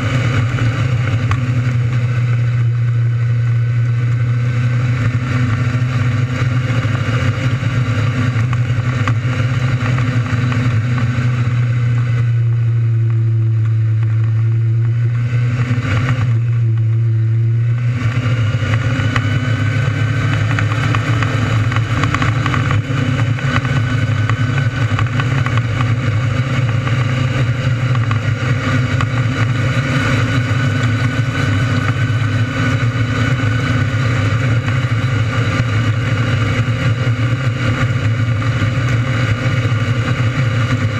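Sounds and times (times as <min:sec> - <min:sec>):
motorcycle engine running at speed: 0:00.0 - 0:40.9.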